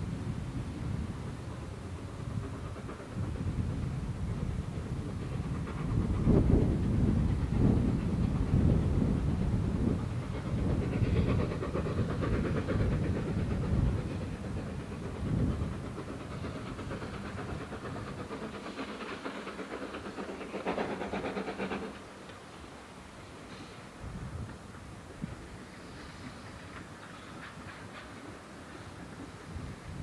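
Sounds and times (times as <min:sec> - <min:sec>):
rhythmic rail clatter: 0:00.0 - 0:30.0
train rumble: 0:00.0 - 0:30.0.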